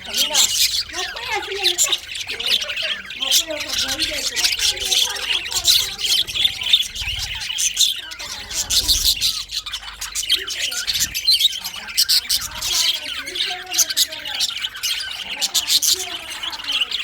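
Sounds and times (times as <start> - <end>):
bird squawks: 0.0 - 17.0
budgerigars chirping: 0.0 - 17.0.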